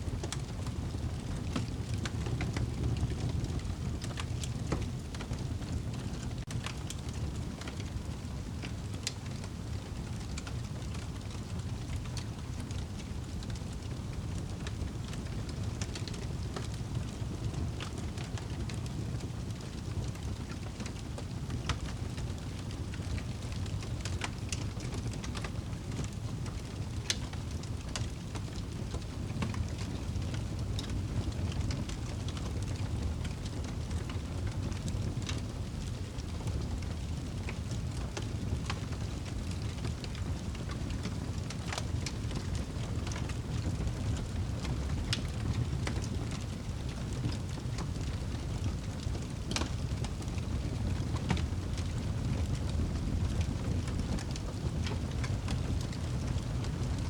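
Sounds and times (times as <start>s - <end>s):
fire crackling and popping: 0.0s - 57.0s
fire flame rumble: 0.0s - 57.0s.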